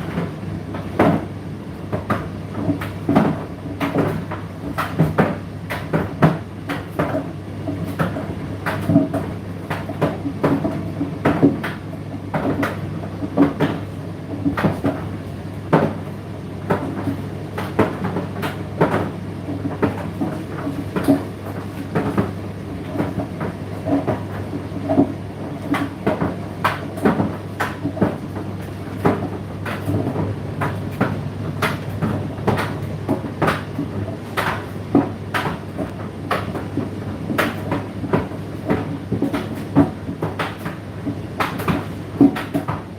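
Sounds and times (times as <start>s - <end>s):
tumble dryer motor hum: 0.0s - 42.9s.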